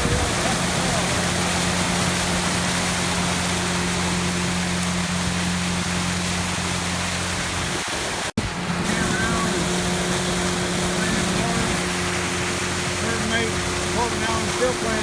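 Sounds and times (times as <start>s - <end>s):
boat motor humming: 0.0s - 15.0s
rushing water: 0.0s - 15.0s
wind: 0.0s - 15.0s.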